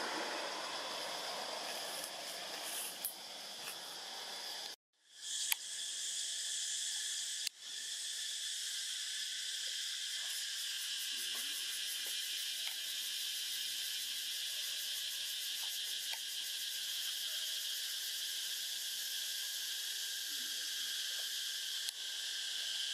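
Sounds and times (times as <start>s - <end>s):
insects buzzing and trilling: 0.0s - 22.9s.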